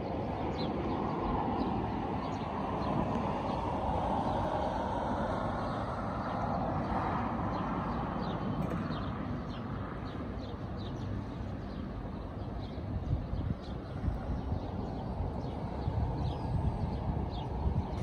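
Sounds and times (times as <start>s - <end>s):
distant road traffic hum: 0.0s - 18.0s.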